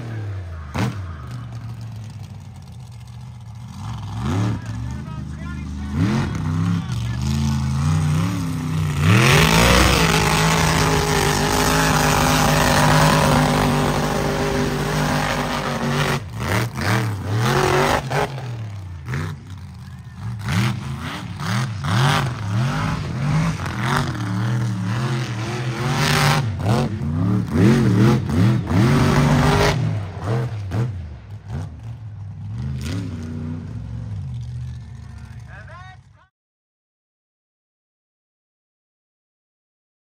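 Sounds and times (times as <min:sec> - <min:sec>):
truck engine revving: 0:00.0 - 0:36.1.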